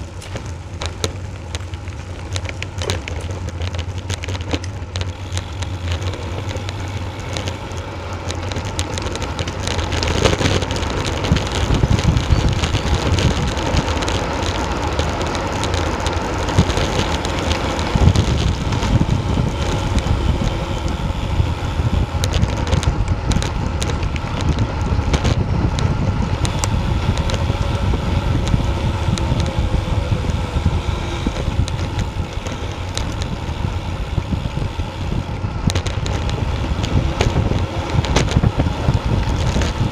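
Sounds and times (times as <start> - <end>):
bike tyres rolling on rough road: 0.0 - 39.9
wind buffeting microphone: 0.0 - 39.9.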